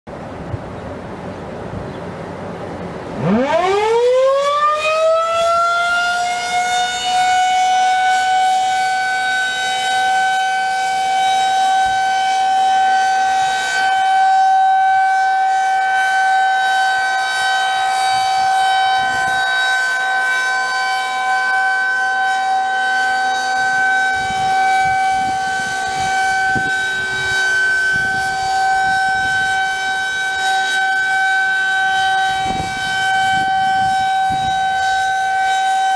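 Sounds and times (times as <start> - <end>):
warning siren steady high tone: 2.4 - 35.9.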